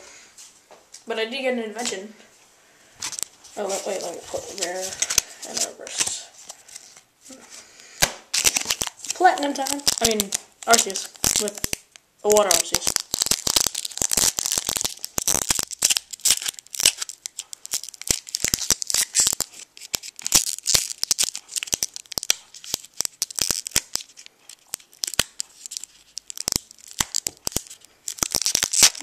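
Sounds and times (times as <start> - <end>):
foil wrapper crinkling and tearing: 3.0 - 7.0, 8.3 - 29.0.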